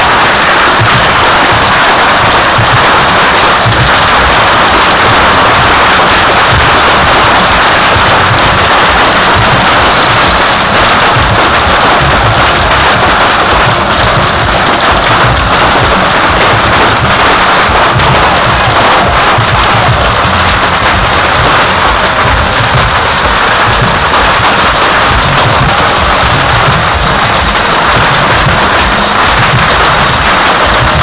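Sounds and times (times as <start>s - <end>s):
firecrackers and rockets crackling: 0.0s - 31.0s.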